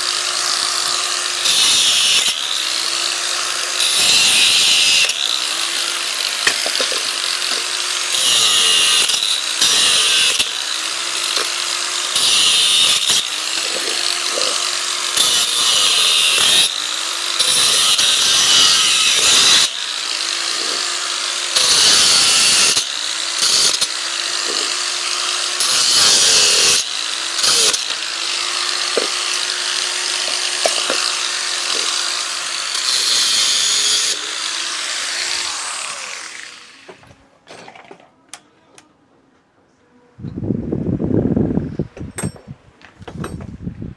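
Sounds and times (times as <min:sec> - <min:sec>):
power tool bursts: 0:00.0 - 0:37.0.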